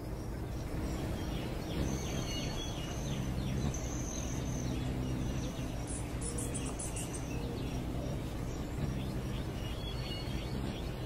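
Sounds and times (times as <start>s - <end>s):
birds chirping: 0.0s - 11.0s
low background rumble: 0.0s - 11.0s.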